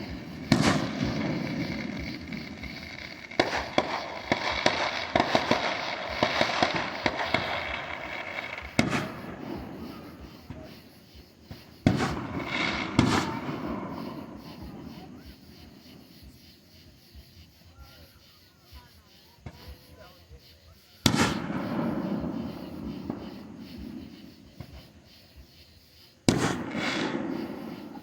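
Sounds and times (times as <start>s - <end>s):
fireworks bangs: 0.0s - 28.0s
fireworks crackling pops: 0.0s - 28.0s.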